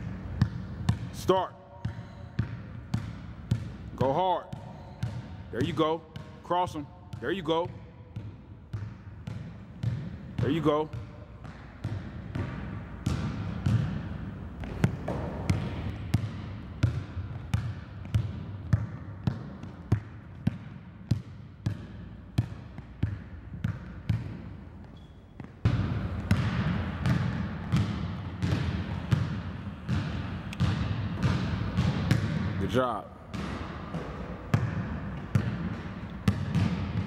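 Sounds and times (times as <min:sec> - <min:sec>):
steady background noise: 0:00.0 - 0:37.0
basketball bouncing on wooden floor: 0:00.3 - 0:01.2, 0:01.8 - 0:32.6, 0:33.3 - 0:37.0.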